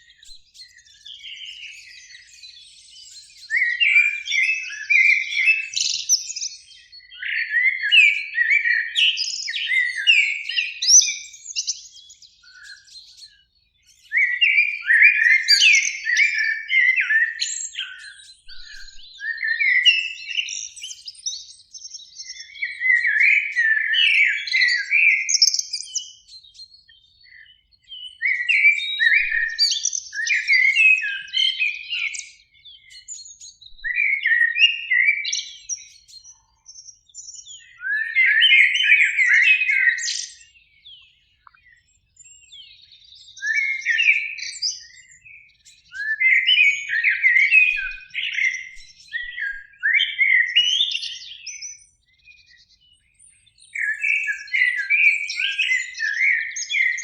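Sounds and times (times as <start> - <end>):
blackbirds singing: 0.0 - 57.0.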